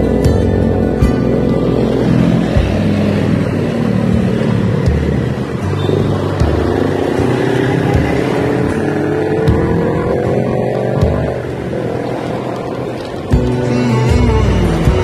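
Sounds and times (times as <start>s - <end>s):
motorbike engines running: 0.0s - 15.0s.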